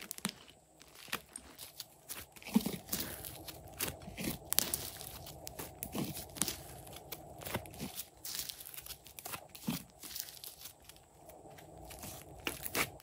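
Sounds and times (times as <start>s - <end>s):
slime crackling and squishing: 0.0s - 13.0s.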